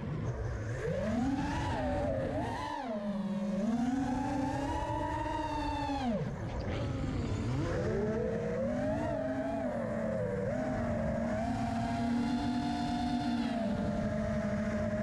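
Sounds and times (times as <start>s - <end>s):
drone motors and propellers whining: 0.0s - 15.0s.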